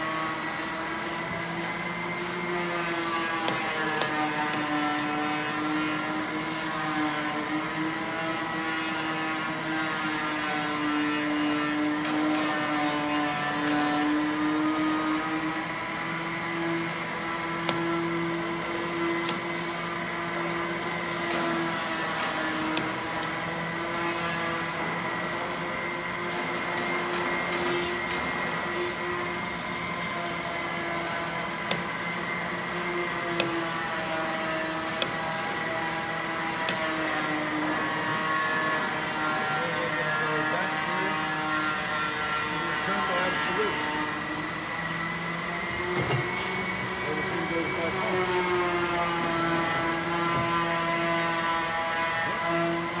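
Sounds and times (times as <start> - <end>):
mill spindle motor whine: 0.0 - 53.0.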